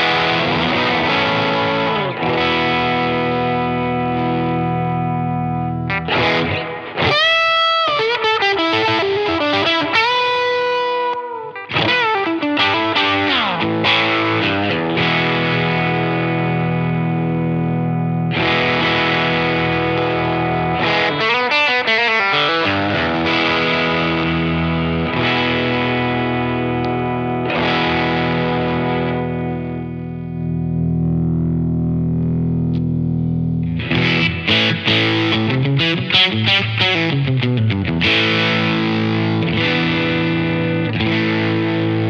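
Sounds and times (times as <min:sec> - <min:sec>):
overdriven electric guitar chords: 0:00.0 - 0:42.0.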